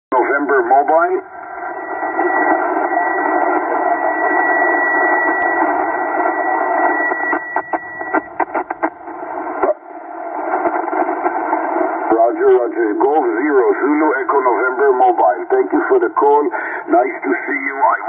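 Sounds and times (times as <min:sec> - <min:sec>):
shortwave receiver hiss: 0:00.1 - 0:18.0.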